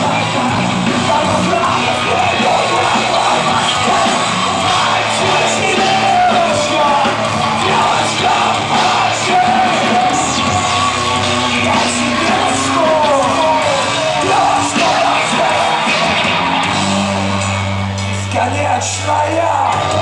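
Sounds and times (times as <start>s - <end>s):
heavy rock band playing: 0.0s - 20.0s.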